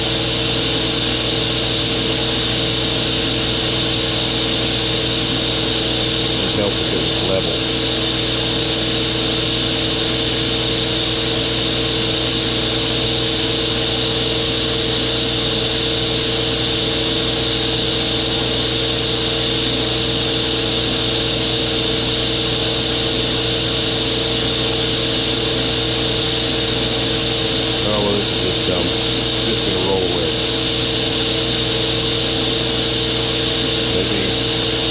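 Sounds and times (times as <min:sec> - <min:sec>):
high whine of table saw: 0:00.0 - 0:34.9
table saw motor humming: 0:00.0 - 0:34.9.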